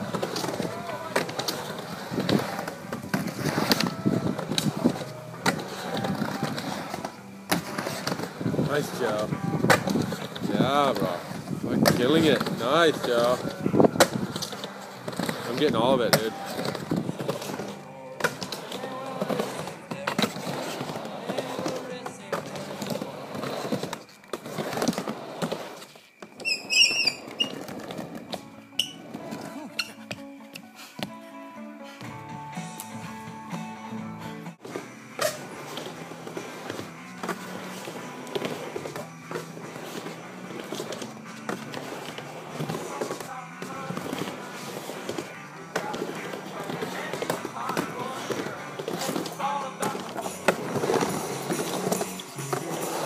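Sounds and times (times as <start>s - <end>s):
faint music: 0.0s - 26.4s, 27.1s - 53.0s
skateboard clacks: 0.0s - 30.7s, 34.4s - 53.0s
skateboard wheels rolling on wood: 0.0s - 53.0s.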